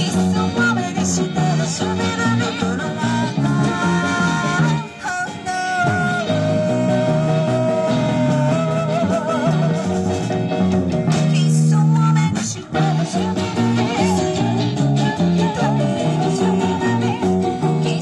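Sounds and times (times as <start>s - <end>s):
woman singing into a microphone: 0.0s - 10.3s, 11.2s - 18.0s
bass: 0.0s - 18.0s
drums: 0.0s - 18.0s
electric guitar: 0.0s - 18.0s.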